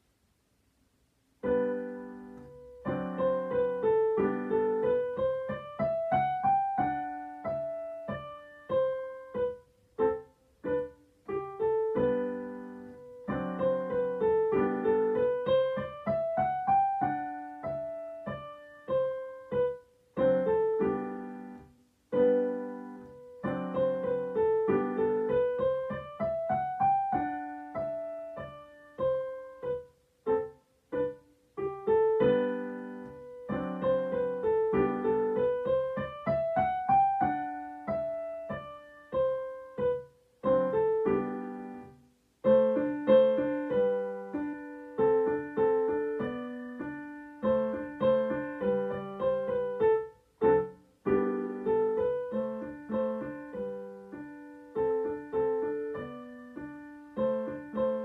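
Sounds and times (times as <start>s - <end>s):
digital piano playing: 1.4s - 58.0s.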